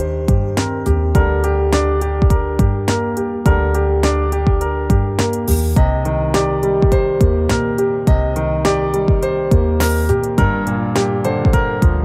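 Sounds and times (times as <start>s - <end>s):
instrumental music with keyboard: 0.0s - 12.0s.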